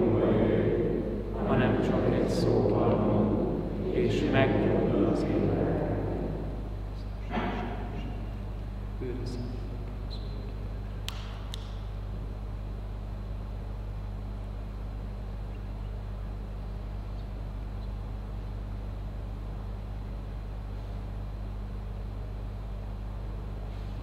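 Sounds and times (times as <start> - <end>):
faint room noise: 0.0 - 24.0
low hum: 0.0 - 24.0.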